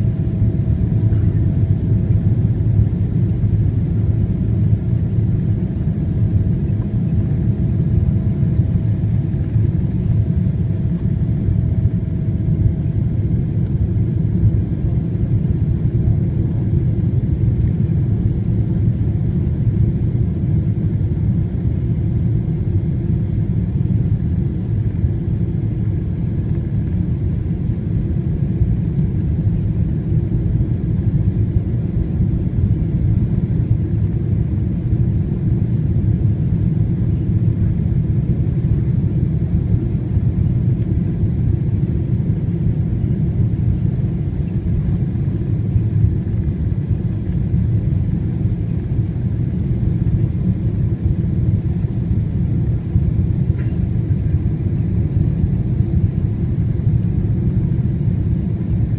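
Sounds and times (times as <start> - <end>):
airliner cabin rumble: 0.0 - 58.9
faint steady hum: 0.0 - 58.9.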